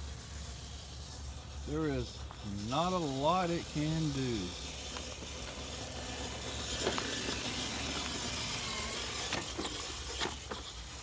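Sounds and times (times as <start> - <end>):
rc car drivetrain whir: 0.0 - 11.0.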